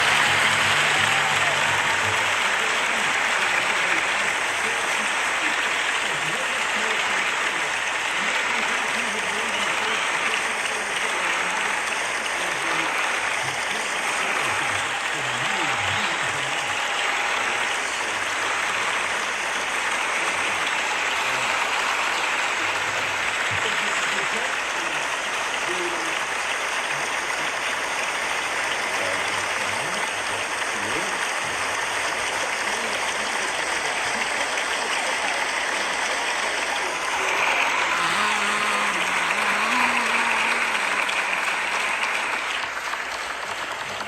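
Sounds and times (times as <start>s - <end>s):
large crowd applauding: 0.0s - 44.0s.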